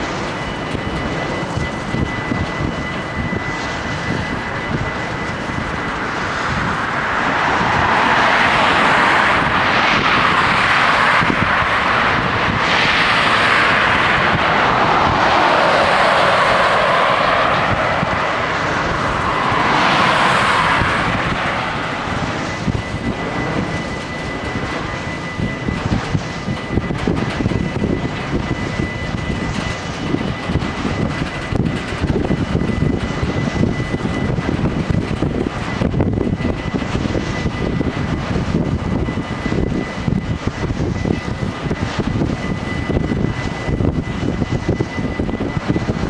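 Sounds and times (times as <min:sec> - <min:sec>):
crossing warning bells ringing: 0:00.0 - 0:12.6, 0:13.2 - 0:46.0
freight train wheels rumbling: 0:00.0 - 0:46.0.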